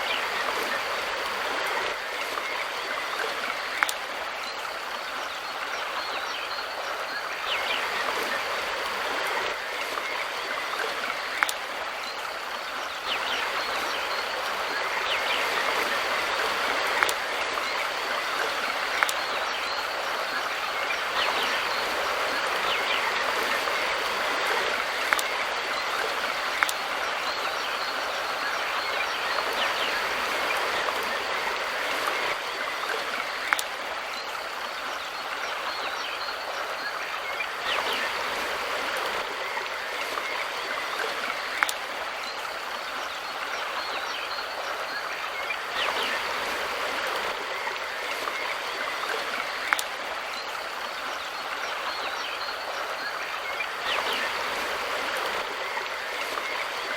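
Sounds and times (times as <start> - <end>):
mountain river rushing: 0.0 - 56.9.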